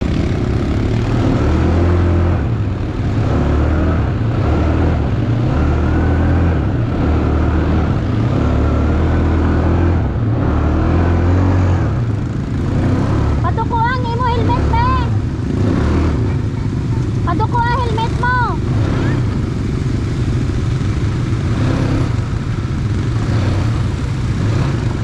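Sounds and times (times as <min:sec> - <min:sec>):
engine revving up and down: 0:00.0 - 0:25.0.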